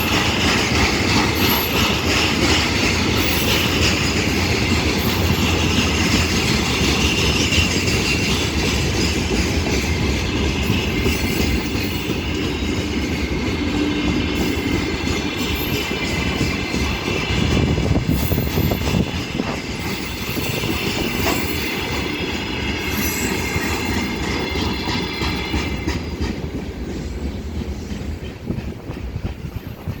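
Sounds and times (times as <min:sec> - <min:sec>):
wheels clattering over rail joints: 0:00.0 - 0:30.0.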